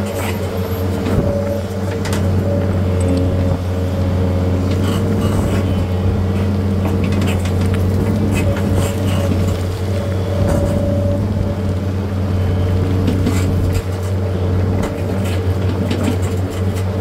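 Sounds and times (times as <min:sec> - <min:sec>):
machinery engine humming: 0:00.0 - 0:17.0.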